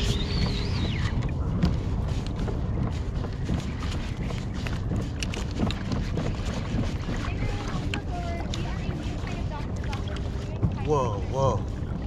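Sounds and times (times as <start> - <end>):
water around kayak: 0.0 - 12.0
wind rumble: 0.0 - 12.0.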